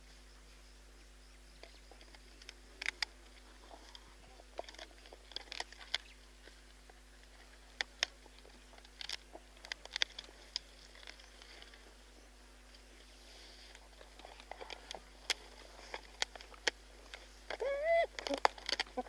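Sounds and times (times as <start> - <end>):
hyena crunching bones: 1.9 - 12.0, 13.3 - 19.0.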